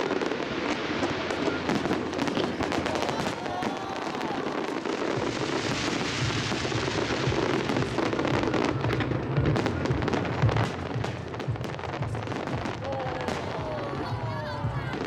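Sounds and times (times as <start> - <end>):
crackle of bursting fireworks: 0.0 - 15.0
low rumble of firework booms: 0.6 - 15.0.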